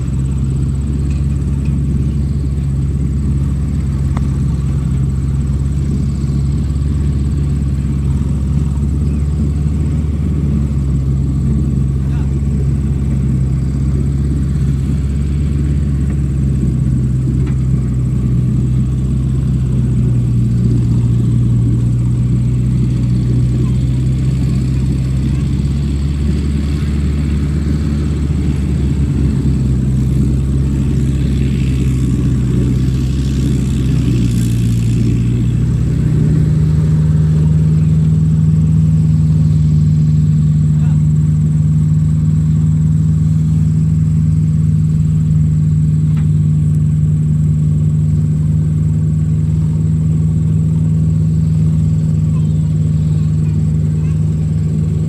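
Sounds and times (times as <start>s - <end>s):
backhoe digging mud: 0.0s - 55.0s
diesel engine running: 0.0s - 55.0s.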